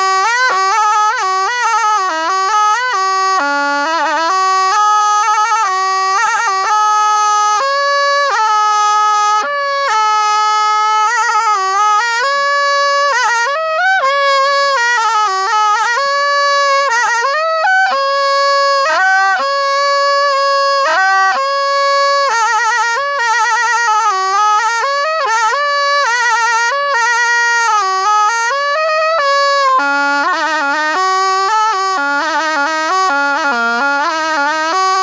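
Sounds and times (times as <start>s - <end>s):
reed oboe solo melody: 0.0s - 35.0s.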